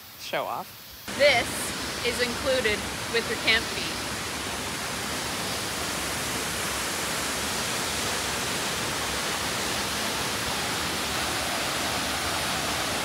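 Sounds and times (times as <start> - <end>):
waterfall rushing into pool: 0.2 - 13.0.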